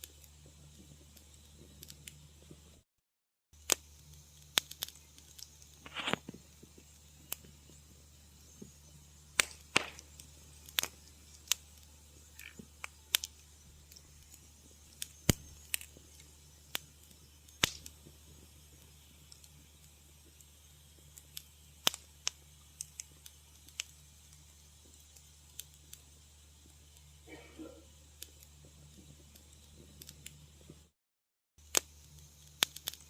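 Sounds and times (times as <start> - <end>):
wood fire crackling: 0.0 - 2.8, 3.6 - 30.9, 31.6 - 33.0
faint low hum: 3.8 - 30.9.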